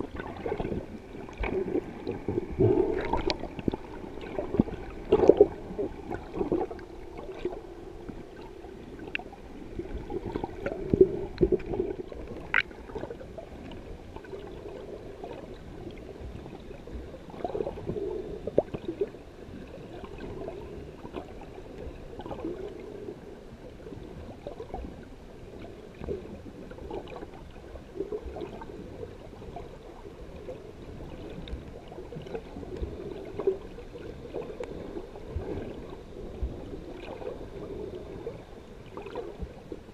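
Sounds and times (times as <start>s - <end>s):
water sloshing underwater: 0.0s - 39.9s.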